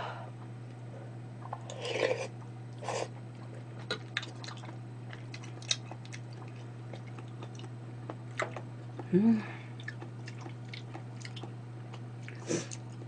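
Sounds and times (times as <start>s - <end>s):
person chewing food: 1.4s - 9.1s, 9.7s - 13.0s.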